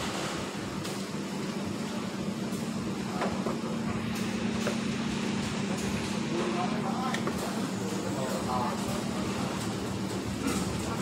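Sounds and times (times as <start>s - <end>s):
moving walkway hum: 0.0s - 11.0s.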